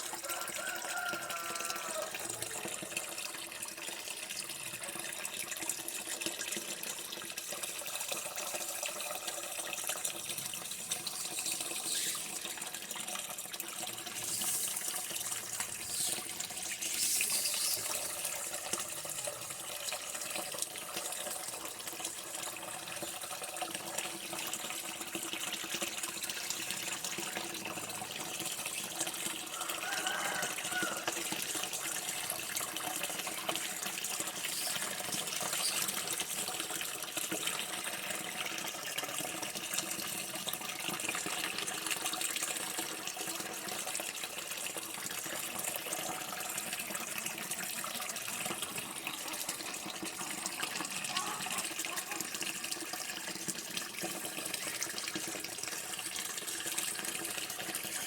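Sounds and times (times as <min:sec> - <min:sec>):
running water: 0:00.0 - 0:58.0
water gurgle: 0:00.0 - 0:58.0.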